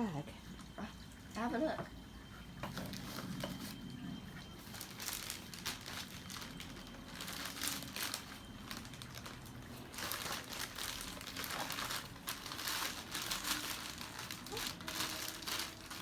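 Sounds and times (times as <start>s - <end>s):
plastic bag crinkling: 2.7s - 16.0s.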